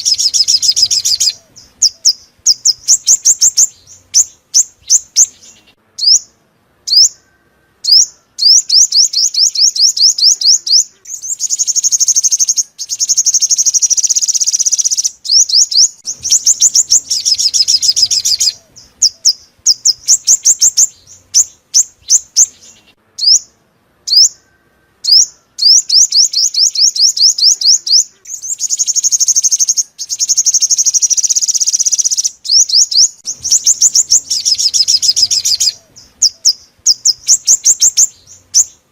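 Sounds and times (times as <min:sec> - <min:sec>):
bird trilling: 0:00.0 - 0:38.9.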